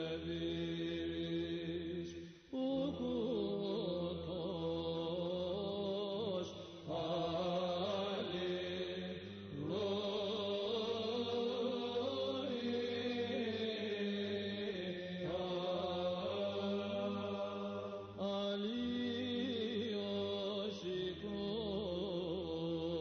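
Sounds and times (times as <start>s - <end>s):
slow chanted vocal: 0.0s - 23.0s.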